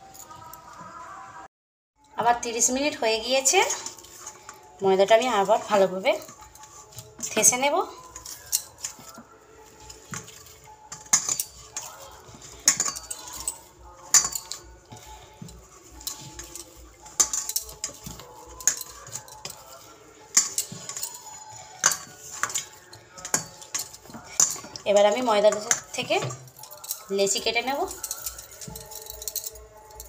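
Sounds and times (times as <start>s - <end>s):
metallic clinks of bowl and bangles: 3.4s - 30.0s.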